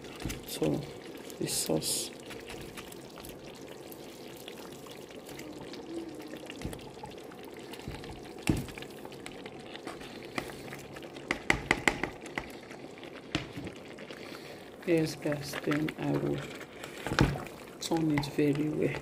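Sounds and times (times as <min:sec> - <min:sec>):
soup bubbling in a pot: 0:00.0 - 0:19.0.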